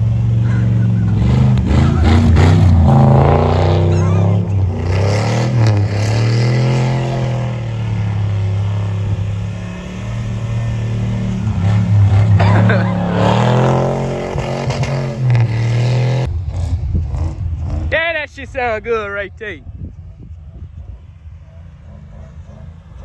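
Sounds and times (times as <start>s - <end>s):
truck engine revving hard: 0.0s - 18.4s, 21.8s - 23.0s.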